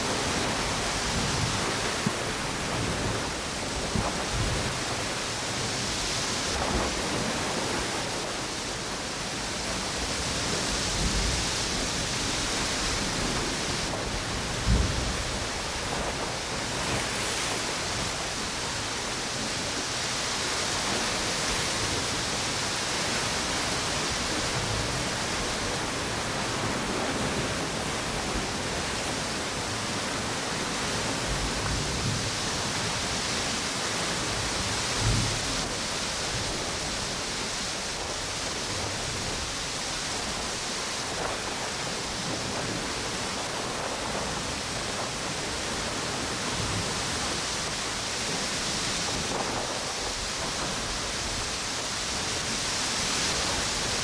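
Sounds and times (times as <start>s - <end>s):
ocean waves breaking: 0.0s - 54.0s
strong wind: 0.0s - 54.0s.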